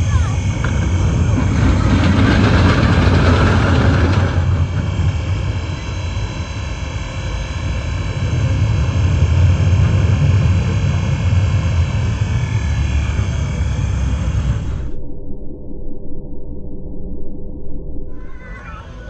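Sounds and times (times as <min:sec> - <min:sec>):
roller coaster rumbling on track: 0:00.0 - 0:15.0, 0:18.1 - 0:19.0.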